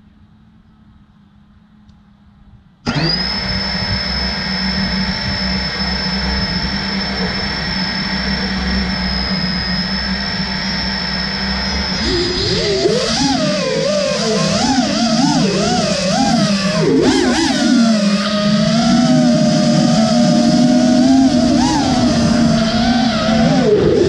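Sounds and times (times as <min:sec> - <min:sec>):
drone motors whining: 0:02.8 - 0:24.0.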